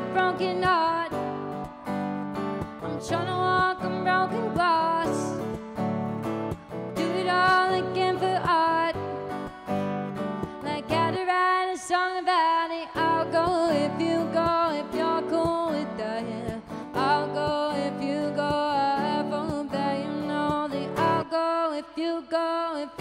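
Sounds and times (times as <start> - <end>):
woman singing: 0.0 - 1.9, 2.7 - 5.6, 7.0 - 9.6, 10.4 - 23.0
acoustic guitar strumming: 0.0 - 22.4.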